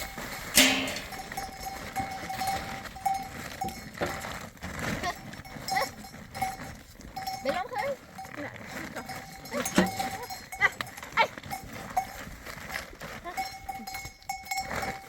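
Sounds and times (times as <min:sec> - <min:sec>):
animal bells clinking: 0:00.0 - 0:15.0.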